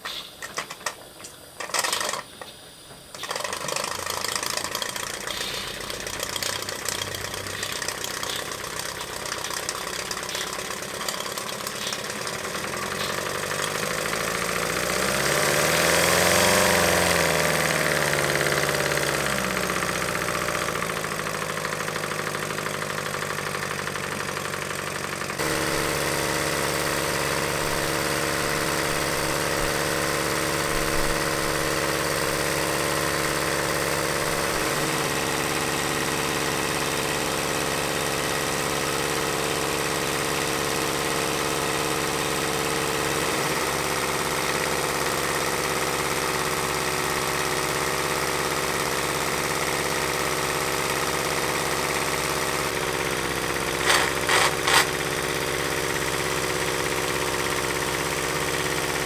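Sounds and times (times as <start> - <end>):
model steam engine running: 0.0 - 59.0.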